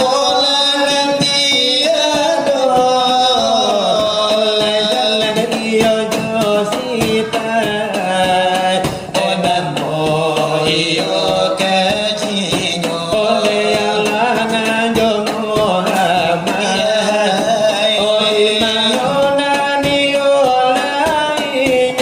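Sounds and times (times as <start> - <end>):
voices chanting a devotional melody: 0.0 - 22.0.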